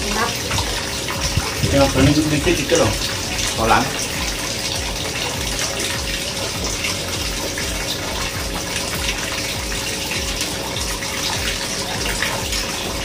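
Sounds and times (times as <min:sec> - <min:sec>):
garden waterfall splashing into pond: 0:00.0 - 0:13.0.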